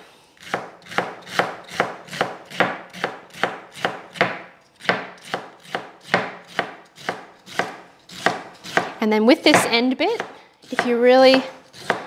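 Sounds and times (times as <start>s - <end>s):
knife slicing celery: 0.4s - 12.0s.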